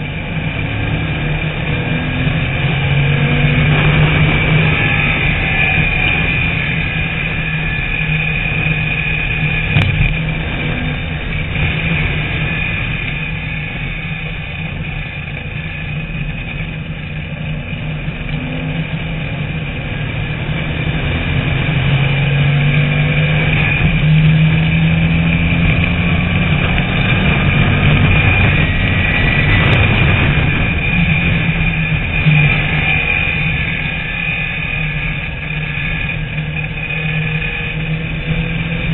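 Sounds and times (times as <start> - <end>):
race car engine revving: 0.0 - 38.9
wind and road noise: 0.0 - 38.9.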